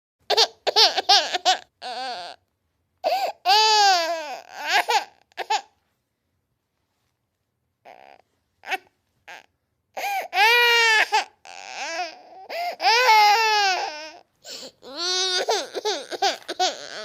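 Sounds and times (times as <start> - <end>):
baby crying: 0.3 - 2.4, 3.0 - 5.8, 7.8 - 17.0.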